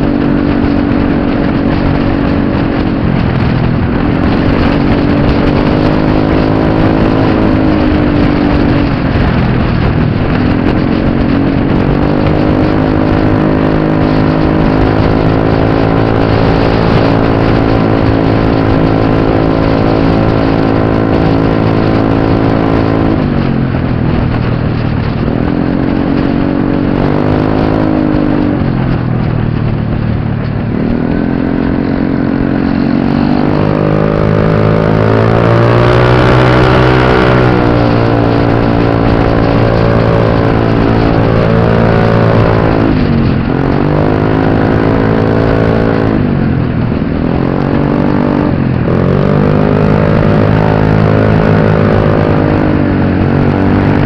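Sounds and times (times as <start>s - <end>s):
scooter engine revving: 0.0s - 23.8s, 24.8s - 54.0s.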